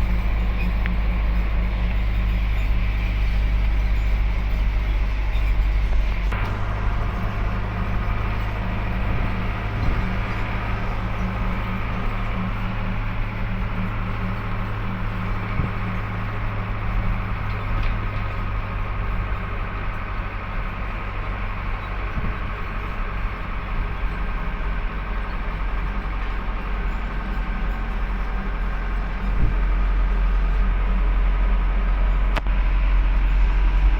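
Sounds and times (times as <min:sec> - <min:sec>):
truck engine and road noise: 0:00.0 - 0:33.9.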